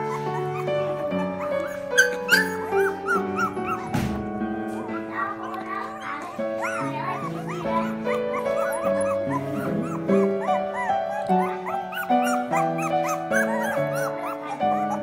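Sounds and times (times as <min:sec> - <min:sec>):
puppies whining and squeaking: 0:00.0 - 0:15.0.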